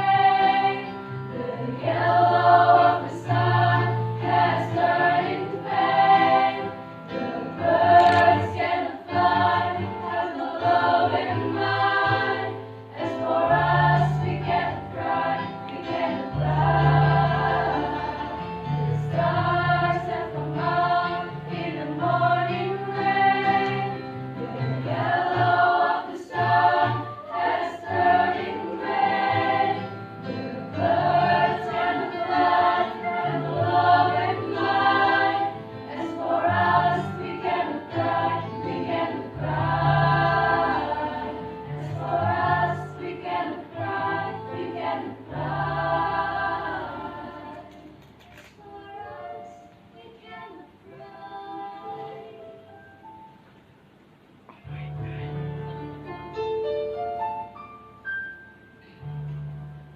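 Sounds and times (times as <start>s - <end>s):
choir singing: 0.0s - 48.0s, 48.6s - 52.6s.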